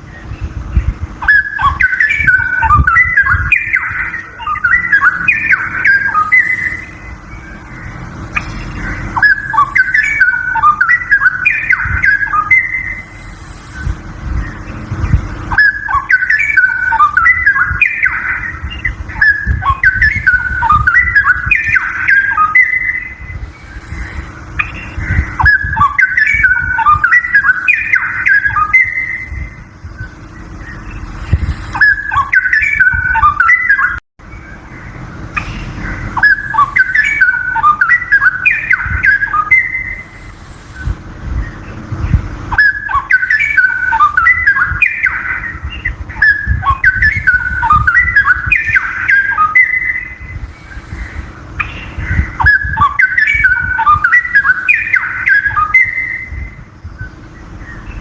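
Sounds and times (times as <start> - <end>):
bird whistled warbling: 0.0 - 58.0
steady low hum: 0.0 - 58.0.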